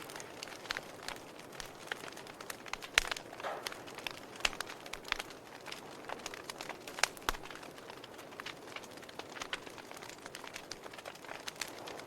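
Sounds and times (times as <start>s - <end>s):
soft fire hiss: 0.0s - 12.0s
wood fire crackling: 0.0s - 12.0s.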